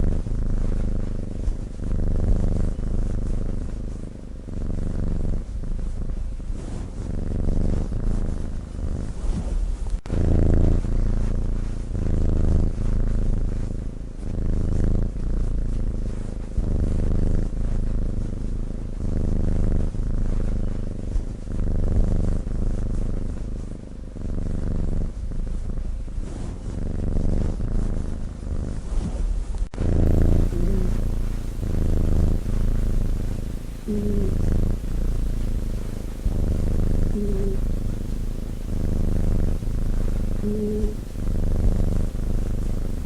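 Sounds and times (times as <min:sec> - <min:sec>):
cat snoring: 0:00.0 - 0:43.0.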